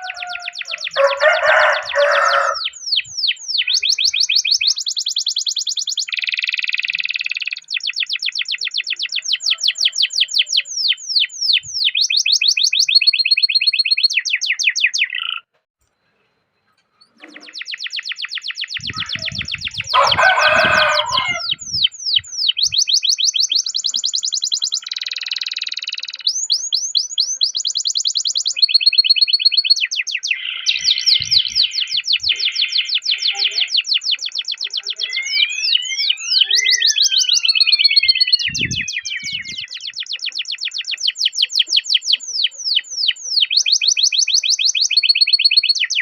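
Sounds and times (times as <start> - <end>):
canary singing: 0.0 - 15.5, 17.0 - 46.0.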